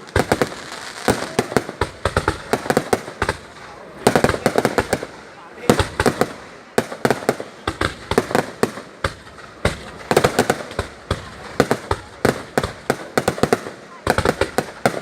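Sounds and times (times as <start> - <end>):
fireworks cracks and bangs: 0.0 - 15.0.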